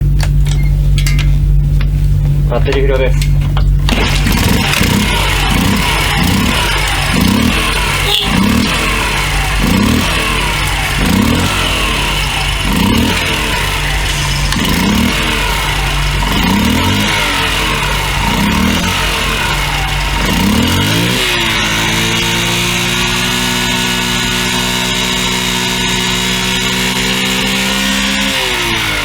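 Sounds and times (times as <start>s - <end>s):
small motorcycle engine revving: 3.8s - 29.0s.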